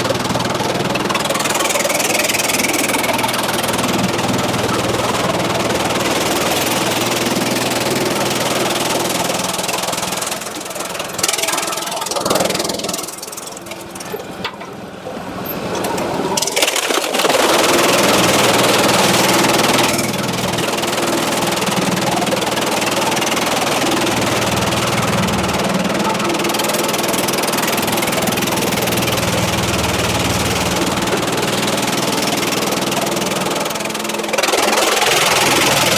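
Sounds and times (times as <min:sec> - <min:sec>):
sawmill machinery running: 0:00.0 - 0:35.9.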